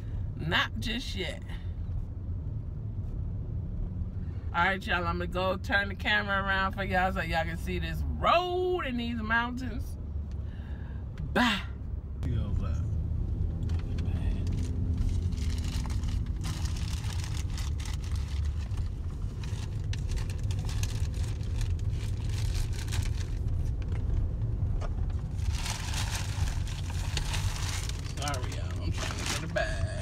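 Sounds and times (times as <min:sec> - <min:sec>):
road rumble inside car: 0:00.0 - 0:30.0.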